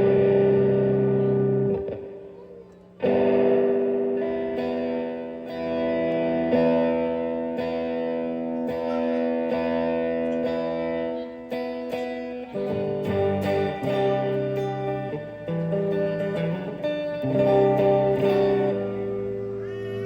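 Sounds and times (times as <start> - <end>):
overdriven electric guitar: 0.0 - 20.0.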